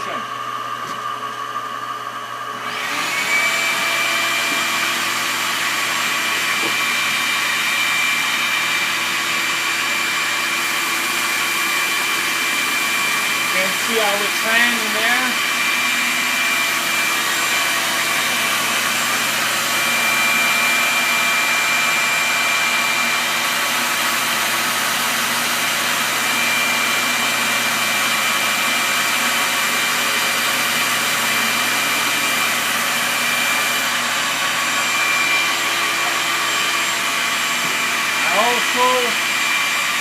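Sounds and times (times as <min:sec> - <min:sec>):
drum sander whirring: 0:00.0 - 0:40.0.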